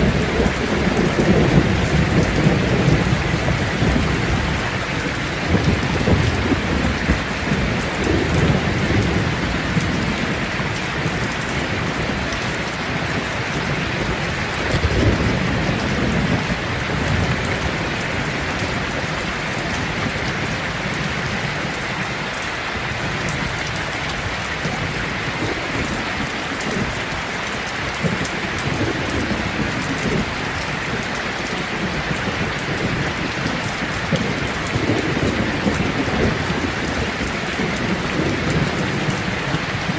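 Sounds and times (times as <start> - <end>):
low rolls of thunder: 0.0 - 21.7, 28.0 - 39.9
heavy rain: 0.0 - 39.9.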